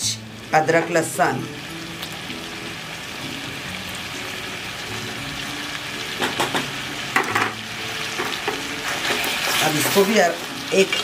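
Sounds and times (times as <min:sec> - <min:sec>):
chicken sizzling in hot fat: 0:00.0 - 0:11.0.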